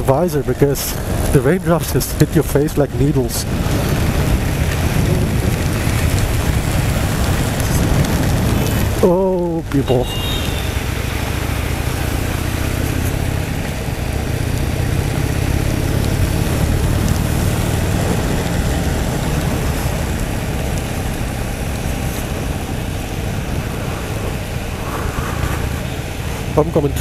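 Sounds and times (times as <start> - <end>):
wet road noise: 0.0 - 27.0
wind rushing: 2.8 - 26.7
motorcycle engine running: 3.4 - 26.6.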